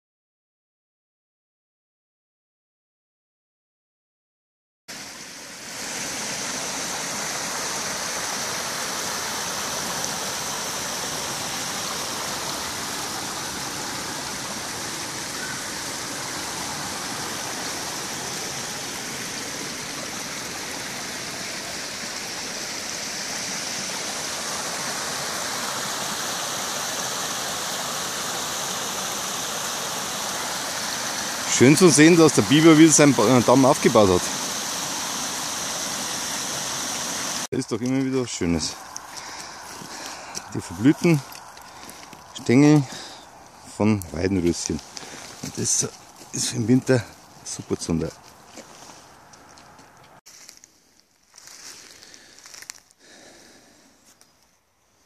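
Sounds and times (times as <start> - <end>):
stream water rushing: 4.9 - 50.2.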